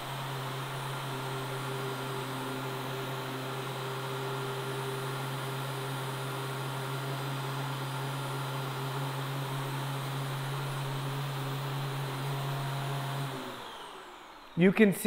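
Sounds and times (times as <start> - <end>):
suction motor humming: 0.0 - 14.7.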